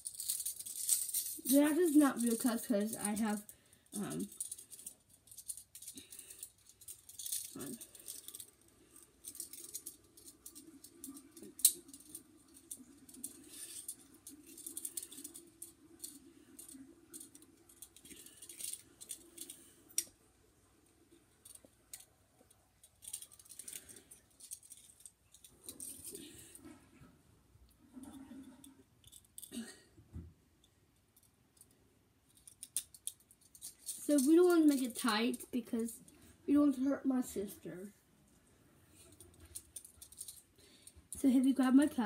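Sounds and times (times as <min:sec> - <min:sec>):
toy handcuffs rattling and clicking: 0:00.0 - 0:20.2, 0:21.4 - 0:26.6, 0:29.0 - 0:29.8, 0:30.6 - 0:36.8, 0:38.9 - 0:42.0.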